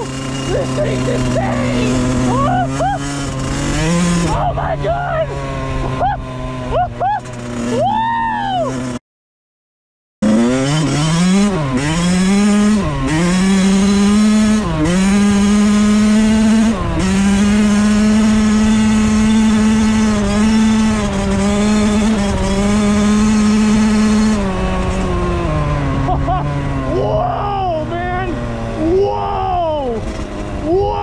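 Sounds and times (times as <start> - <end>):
motorcycle engine accelerating: 0.0 - 9.0, 10.2 - 31.0.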